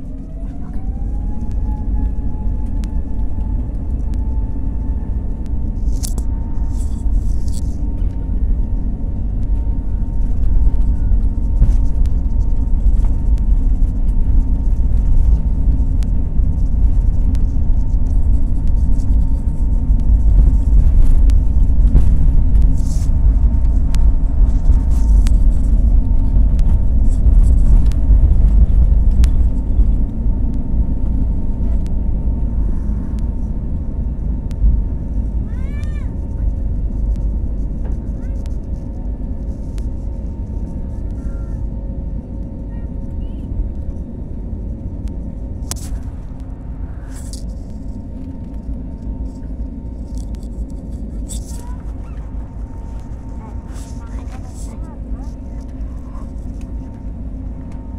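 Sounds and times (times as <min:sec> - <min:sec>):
jet engines at takeoff power: 0:00.0 - 0:57.9
thin steady engine whine: 0:00.0 - 0:57.9.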